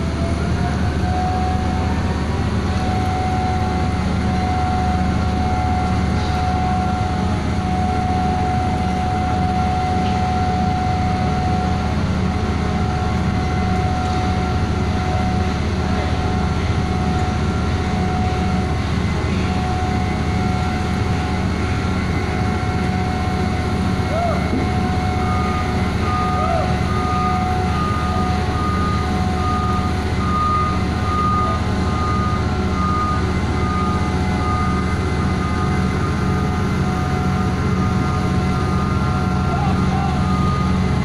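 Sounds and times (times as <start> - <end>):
machine high whine: 0.0 - 41.0
machine low drone: 0.0 - 41.0.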